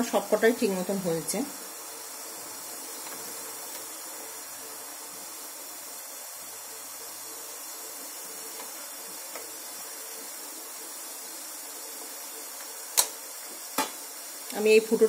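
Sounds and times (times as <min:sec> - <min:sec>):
steamer pot hissing: 0:00.0 - 0:15.0.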